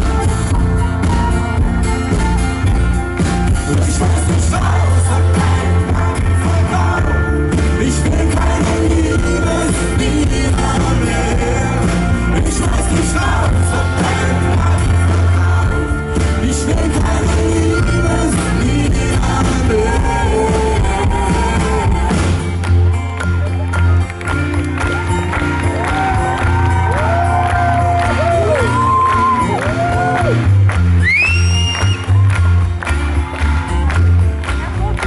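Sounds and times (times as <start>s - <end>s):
live pop-rock band music: 0.0s - 35.0s.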